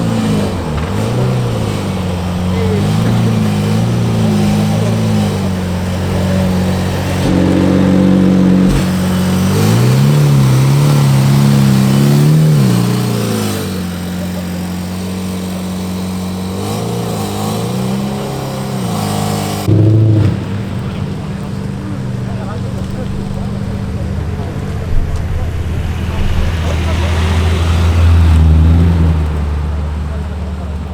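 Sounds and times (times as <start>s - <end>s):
car engines idling and revving: 0.0s - 30.9s.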